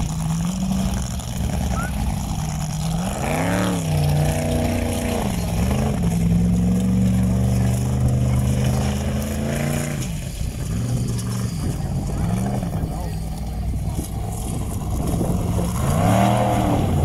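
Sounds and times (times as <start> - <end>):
offroad car engine revving: 0.0 - 17.0.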